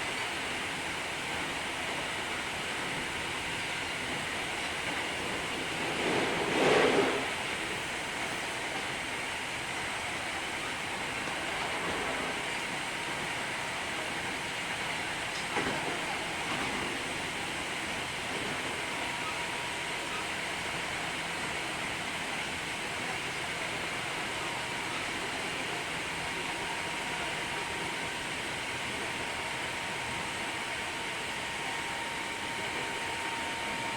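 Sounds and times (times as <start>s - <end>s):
wheels rumbling on rail: 0.0s - 33.9s.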